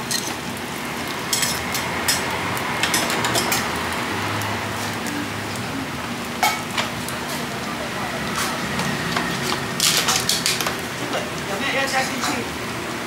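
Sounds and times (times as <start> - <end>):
oil sizzling on a griddle: 0.0 - 13.0.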